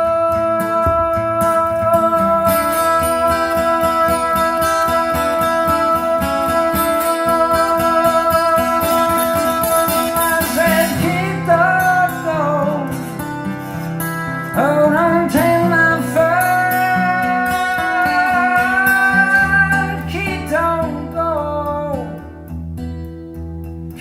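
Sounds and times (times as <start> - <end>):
guitar song over loudspeakers: 0.0 - 24.0.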